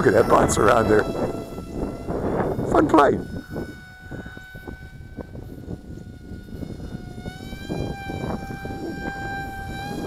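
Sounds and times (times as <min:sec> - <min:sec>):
electric motor and propeller whine: 0:00.0 - 0:10.0
wind buffeting microphone: 0:00.0 - 0:10.0.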